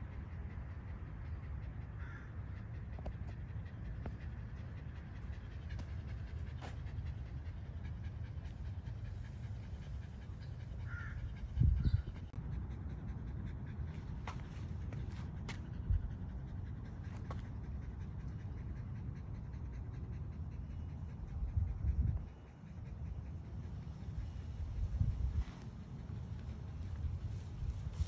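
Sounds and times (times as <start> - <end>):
dog panting: 0.0 - 28.0.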